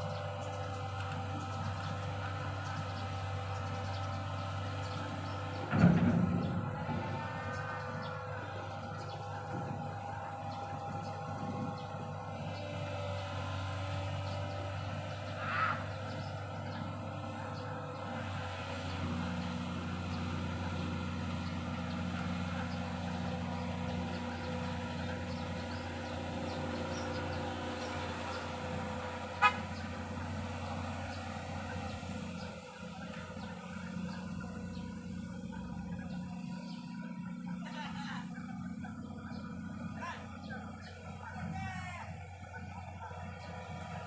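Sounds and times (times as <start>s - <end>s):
excavator engine running: 0.0s - 44.0s.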